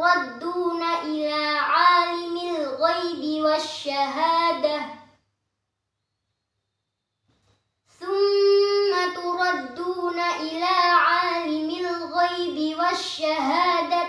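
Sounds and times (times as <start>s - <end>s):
girl reciting melodically: 0.0s - 5.2s, 7.9s - 14.0s.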